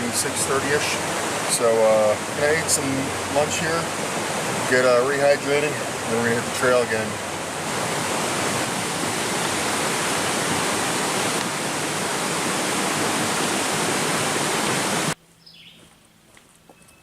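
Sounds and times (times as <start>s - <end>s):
flowing water rushing: 0.0s - 15.2s.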